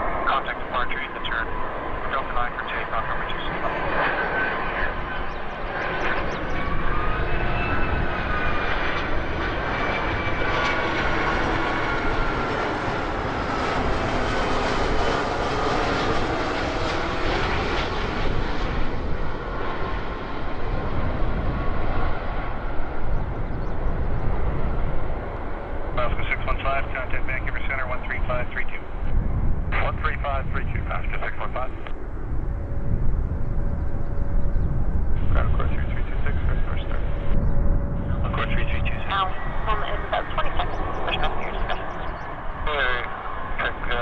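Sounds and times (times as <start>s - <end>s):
jet airliner passing overhead: 0.0s - 44.0s.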